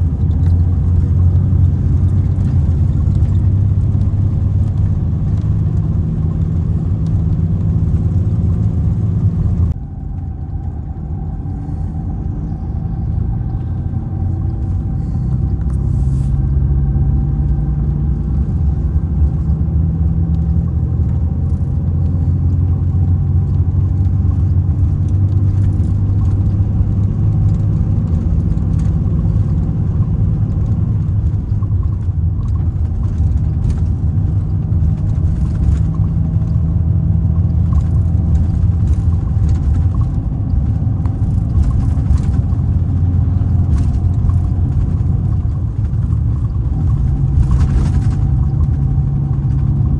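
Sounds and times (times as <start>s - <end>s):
coach diesel engine running: 0.0s - 49.9s.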